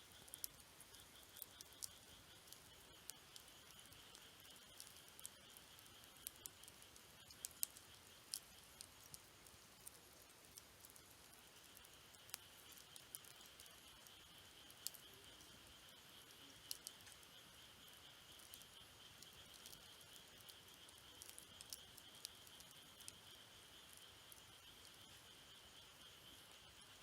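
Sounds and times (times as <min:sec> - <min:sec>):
insect trill: 0:00.0 - 0:27.0
campfire wood crackling: 0:00.1 - 0:27.0.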